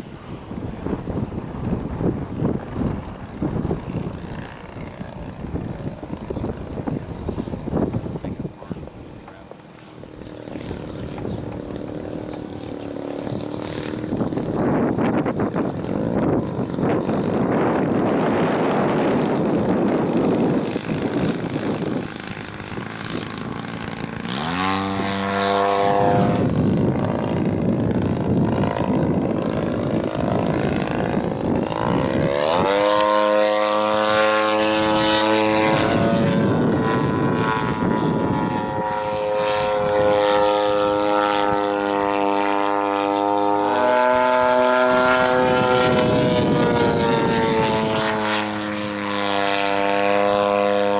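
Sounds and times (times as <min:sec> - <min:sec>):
model plane engine and propeller: 0:00.0 - 0:50.9
rushing wind: 0:00.0 - 0:50.9.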